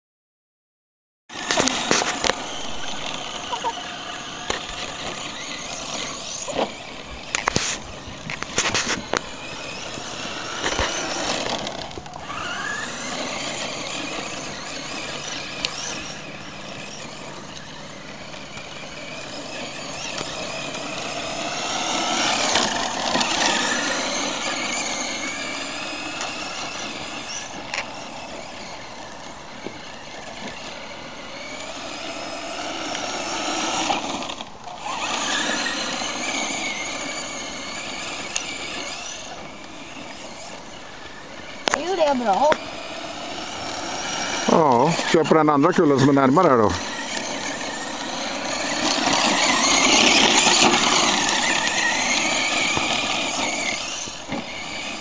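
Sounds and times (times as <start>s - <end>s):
toy truck electric motor whining: 1.3s - 55.0s.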